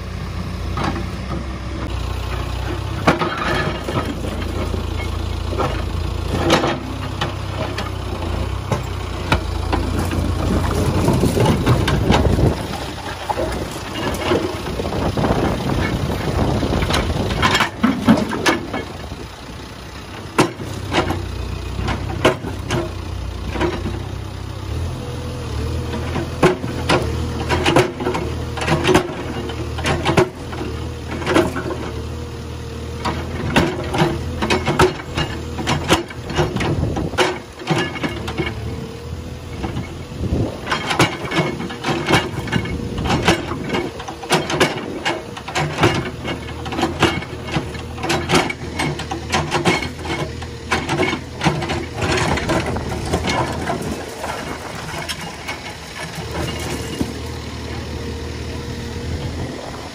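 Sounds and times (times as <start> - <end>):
diesel engine running: 0.0 - 59.9
machine clanks and knocks: 2.8 - 19.2, 20.1 - 24.0, 25.9 - 32.0, 33.0 - 38.8, 39.5 - 57.8.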